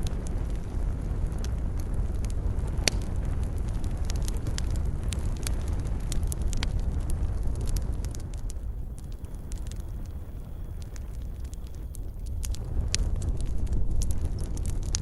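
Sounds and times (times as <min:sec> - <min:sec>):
bonfire roaring: 0:00.0 - 0:15.0
fire crackling and popping: 0:00.0 - 0:15.0.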